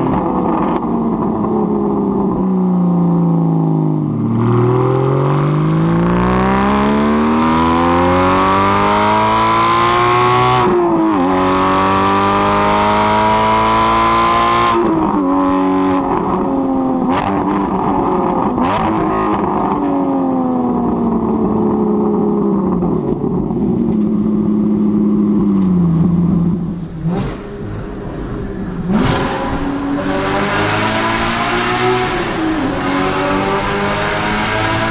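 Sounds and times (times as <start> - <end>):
sports car accelerating hard: 0.0 - 34.9.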